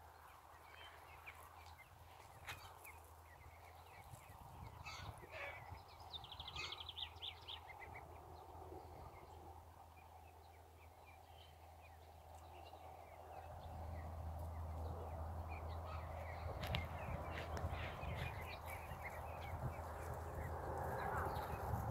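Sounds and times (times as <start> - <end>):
ducklings peeping: 0.1 - 21.9.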